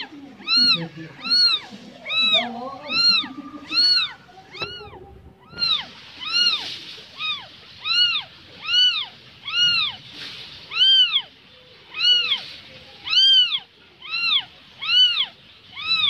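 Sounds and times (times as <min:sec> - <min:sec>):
kitten meowing: 0:00.0 - 0:16.0.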